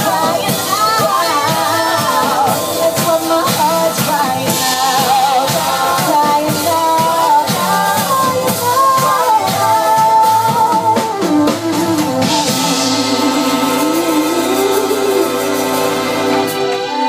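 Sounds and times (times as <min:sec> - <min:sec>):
drum beat: 0:00.0 - 0:17.0
woman singing: 0:00.0 - 0:17.0.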